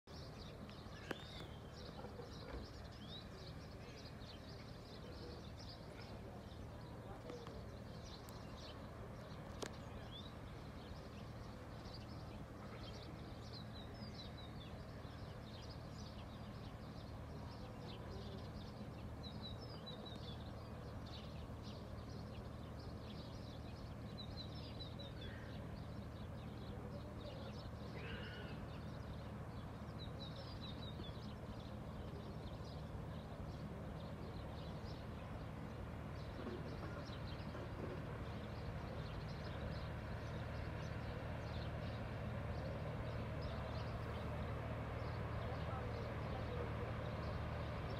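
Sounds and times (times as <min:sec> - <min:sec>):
small birds chirping: 0:00.0 - 0:47.9
ship engine drone: 0:01.6 - 0:47.9.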